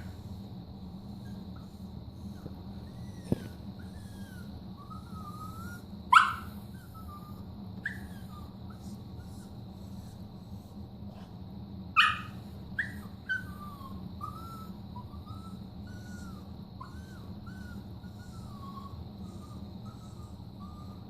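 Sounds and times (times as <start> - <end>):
dog whining: 1.1 - 11.3, 12.0 - 21.0
dog yelping: 1.1 - 11.3, 12.0 - 21.0.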